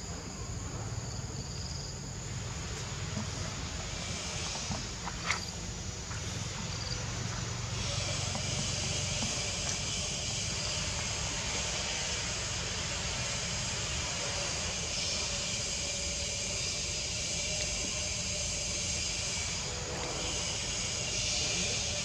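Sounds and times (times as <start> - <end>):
broad hiss: 1.8 - 22.0.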